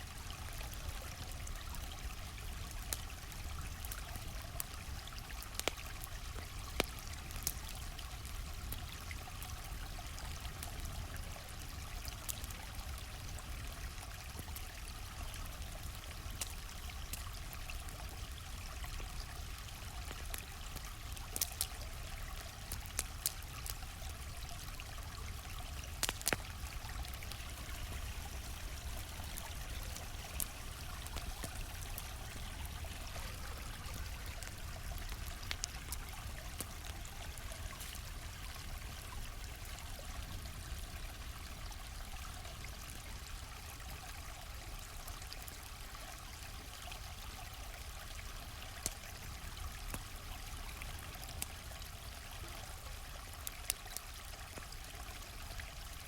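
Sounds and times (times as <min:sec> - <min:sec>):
campfire crackling: 0:00.0 - 0:56.0
stream flowing: 0:00.0 - 0:56.0.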